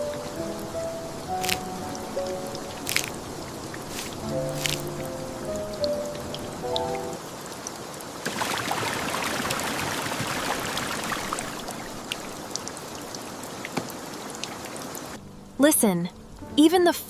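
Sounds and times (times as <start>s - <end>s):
raindrops tapping close by: 0.0s - 15.2s
steady rain: 0.0s - 15.8s.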